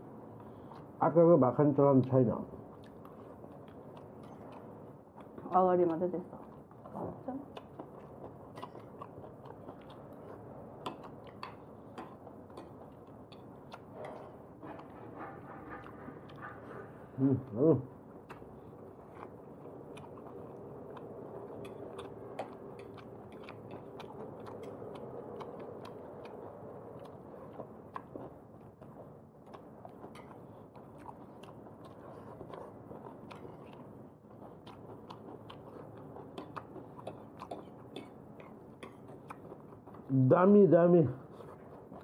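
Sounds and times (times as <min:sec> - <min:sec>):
person chewing: 0:00.0 - 0:01.2, 0:01.8 - 0:40.6, 0:41.2 - 0:42.0
low background hum: 0:00.0 - 0:42.0.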